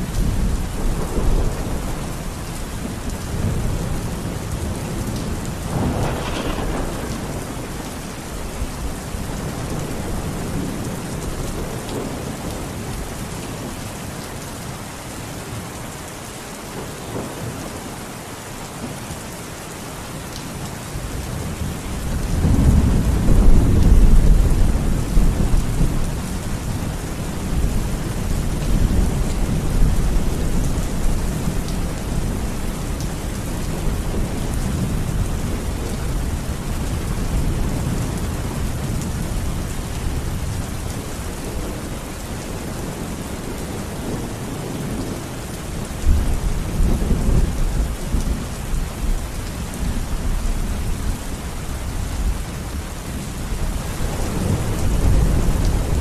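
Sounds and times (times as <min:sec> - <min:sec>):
steady rain: 0:00.0 - 0:56.0
low rolling thunder: 0:00.1 - 0:13.0, 0:21.1 - 0:56.0.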